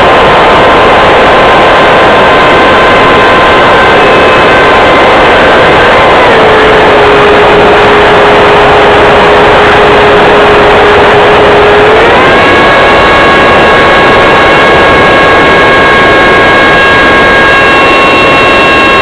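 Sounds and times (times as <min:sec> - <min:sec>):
electric ducted fan whining: 0:00.0 - 0:19.0
heavy wind rush: 0:00.0 - 0:19.0.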